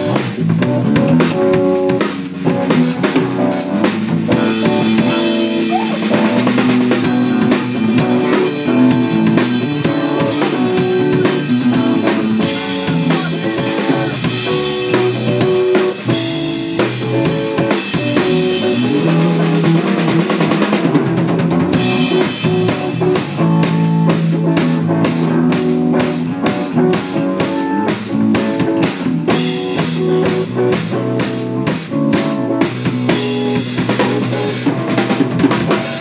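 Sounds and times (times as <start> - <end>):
drum kit: 0.0 - 36.0
rock band playing: 0.0 - 36.0.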